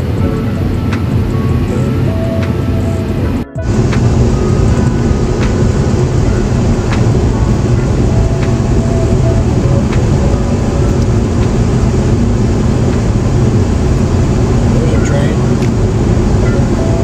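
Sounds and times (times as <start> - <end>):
car interior road noise: 0.0 - 17.0.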